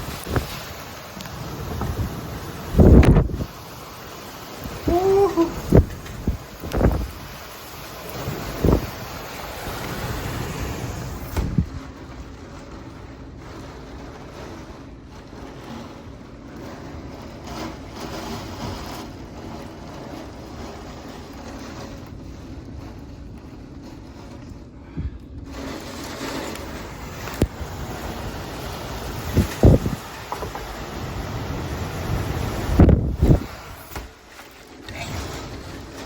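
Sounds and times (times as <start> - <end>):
wind buffeting microphone: 0.0 - 14.7, 18.6 - 34.3
gusting wind: 0.0 - 36.0.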